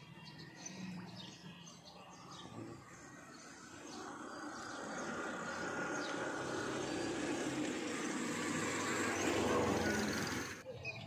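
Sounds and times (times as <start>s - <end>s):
motor vehicle passing: 0.4s - 10.6s.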